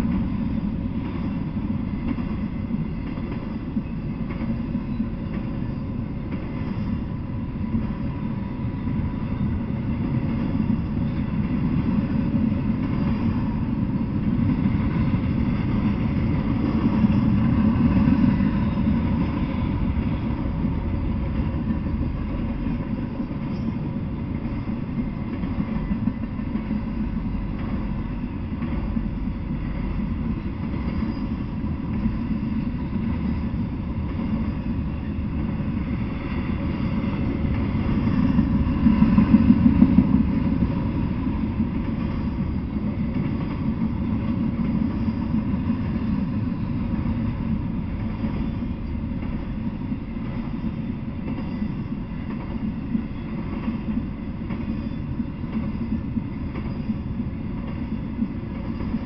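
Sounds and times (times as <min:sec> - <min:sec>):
faint rhythmic rail clatter: 0:00.0 - 0:59.0
freight train wheels rumbling: 0:00.0 - 0:59.0.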